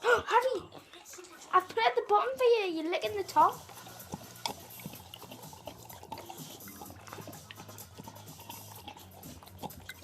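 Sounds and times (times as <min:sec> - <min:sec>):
dog lapping: 0:00.0 - 0:10.0.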